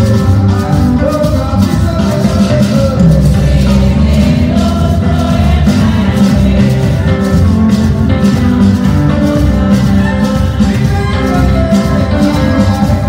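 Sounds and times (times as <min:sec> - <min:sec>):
amplified backing music with bass: 0:00.0 - 0:13.0
group singing gospel: 0:00.0 - 0:13.0.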